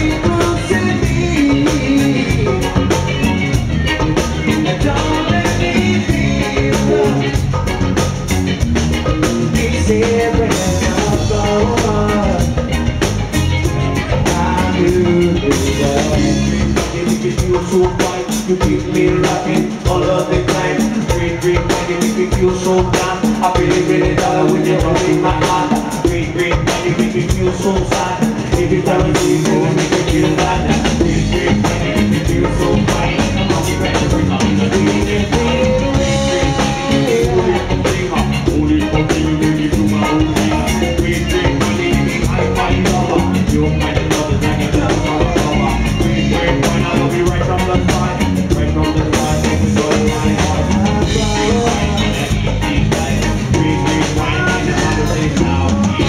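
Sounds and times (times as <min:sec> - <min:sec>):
person singing: 0:00.0 - 0:08.1, 0:09.1 - 0:56.0
live band playing upbeat music: 0:00.0 - 0:56.0.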